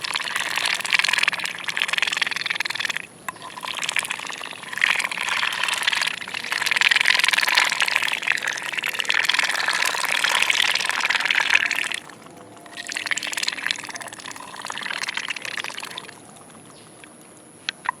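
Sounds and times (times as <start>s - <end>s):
ducks slurping feed: 0.0s - 17.2s.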